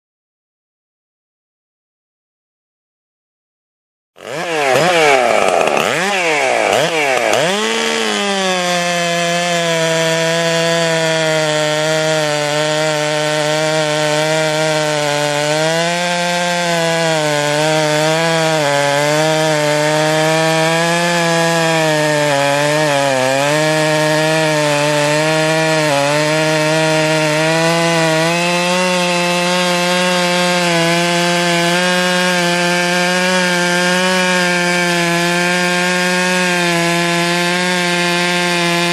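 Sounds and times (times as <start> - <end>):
chainsaw cutting wood: 4.2 - 38.9
chainsaw revving: 4.2 - 38.9.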